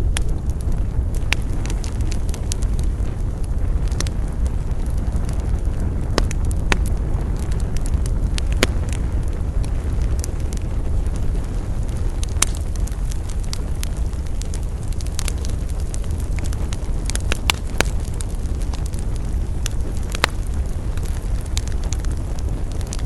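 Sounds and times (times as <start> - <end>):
campfire crackling and popping: 0.0 - 23.0
low rumble: 0.0 - 23.0.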